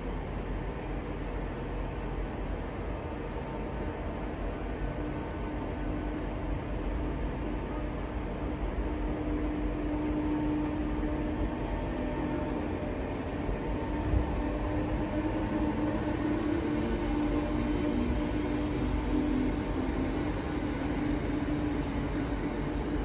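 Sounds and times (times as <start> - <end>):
train engine rumble and hum: 0.0 - 23.0.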